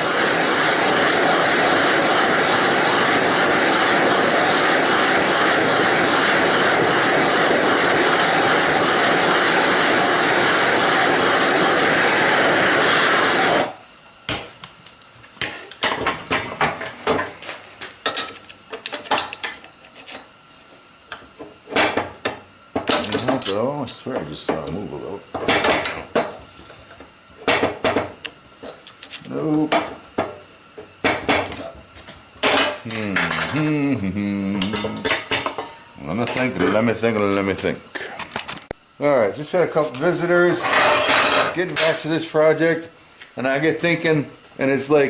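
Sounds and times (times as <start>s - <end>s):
gas torch roaring: 0.0s - 45.0s.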